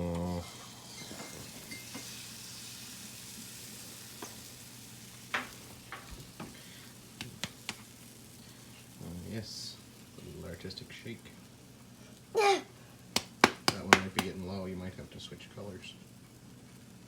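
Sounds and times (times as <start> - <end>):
batter sizzling in a pan: 0.0 - 17.0.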